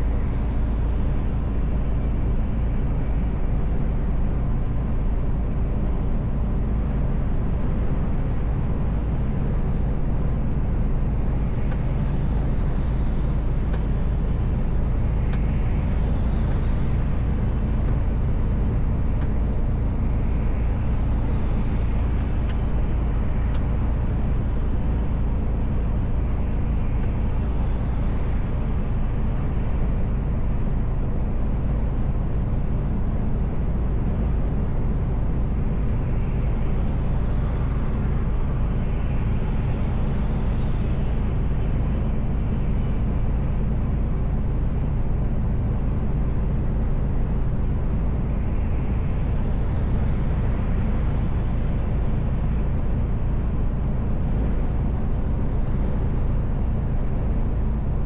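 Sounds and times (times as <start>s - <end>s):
truck engine and road rumble: 0.0s - 58.0s.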